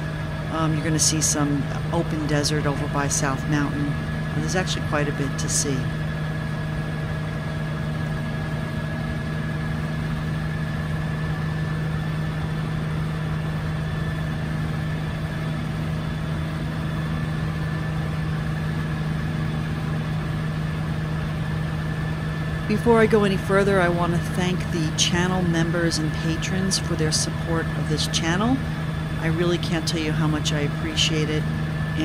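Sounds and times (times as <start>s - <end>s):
helicopter engine and rotor drone: 0.0s - 32.0s.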